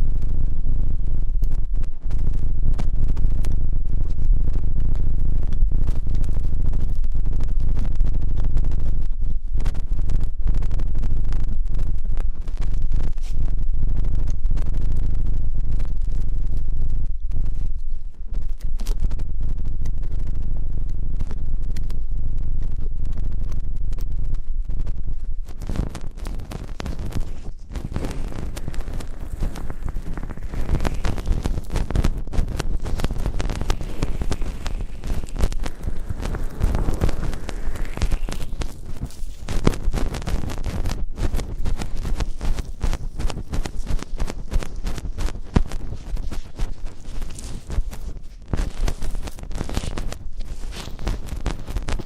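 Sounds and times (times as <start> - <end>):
low rumble: 0.0 - 52.0
scratching against microphone: 0.0 - 52.0.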